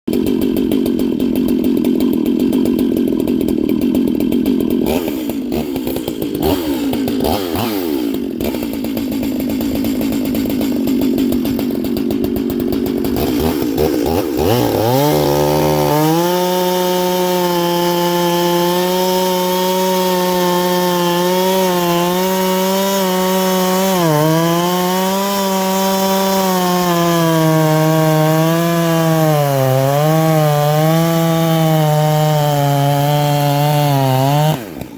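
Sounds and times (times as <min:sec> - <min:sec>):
chainsaw running at high revs: 0:00.0 - 0:34.9.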